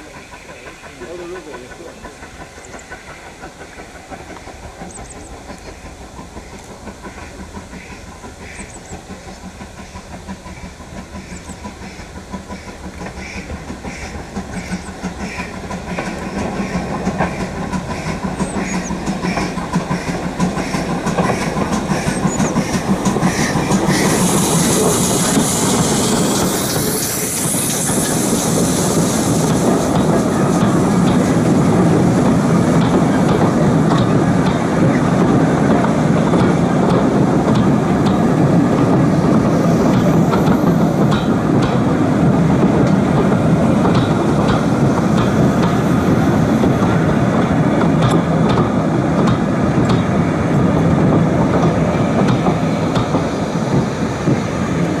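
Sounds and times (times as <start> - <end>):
steam hissing: 0.0 - 55.0
train coaches rumbling: 0.0 - 55.0
wheels clicking on rails: 0.0 - 55.0.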